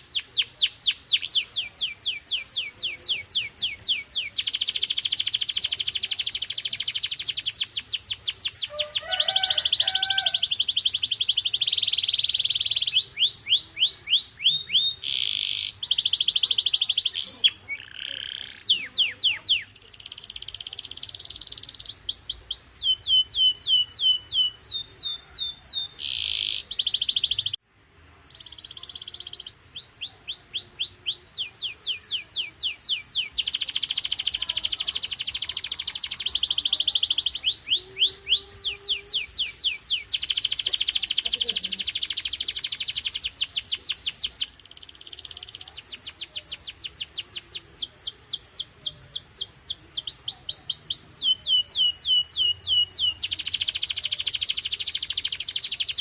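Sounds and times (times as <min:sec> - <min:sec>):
canary singing: 0:00.0 - 0:27.6, 0:28.3 - 0:56.0.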